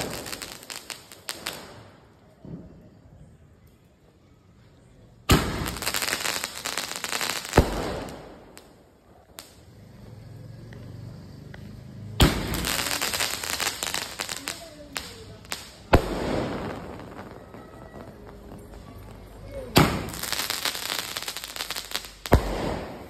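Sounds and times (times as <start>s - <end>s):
fireworks bangs: 0.0s - 3.0s, 5.3s - 10.3s, 11.5s - 23.0s
fireworks crackling: 0.0s - 3.0s, 5.3s - 23.0s.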